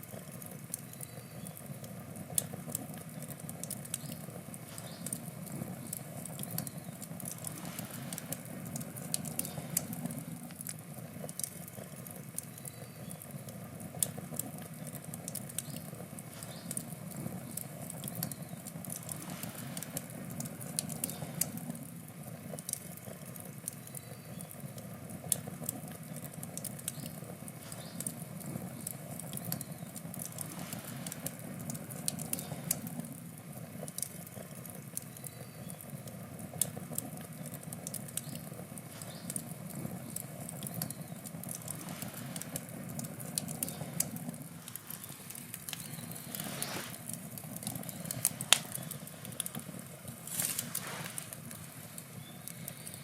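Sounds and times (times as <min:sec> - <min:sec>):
campfire crackling and popping: 0:00.0 - 0:53.0
low rush of flame: 0:01.4 - 0:53.0.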